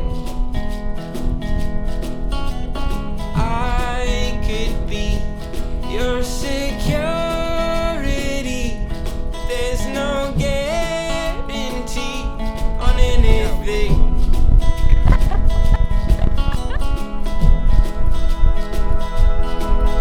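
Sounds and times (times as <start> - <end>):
country song with acoustic guitar: 0.0 - 20.0.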